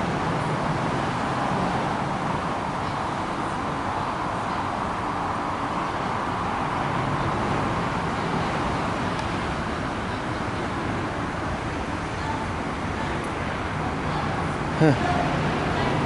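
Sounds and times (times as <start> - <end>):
traffic on wet road: 0.0 - 16.0.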